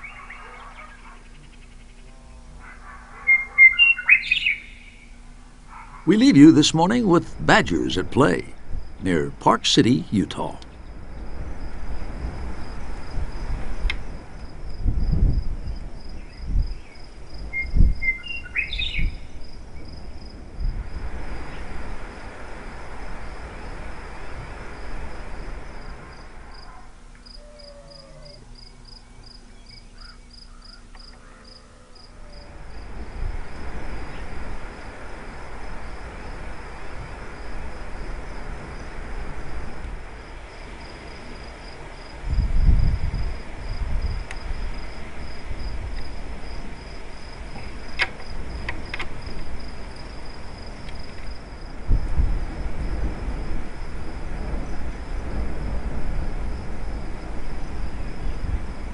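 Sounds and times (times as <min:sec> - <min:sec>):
insect chirping: 0:00.0 - 0:58.9.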